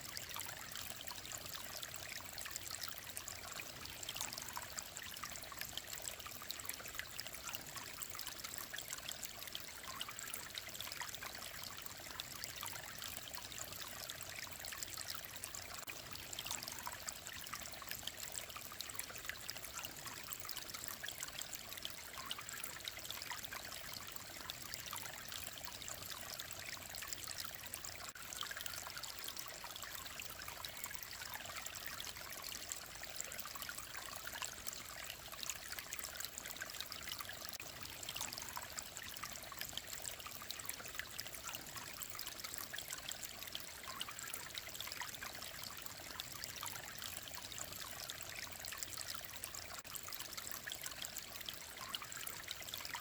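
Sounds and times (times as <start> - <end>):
stream water trickling and splashing: 0.0 - 53.0.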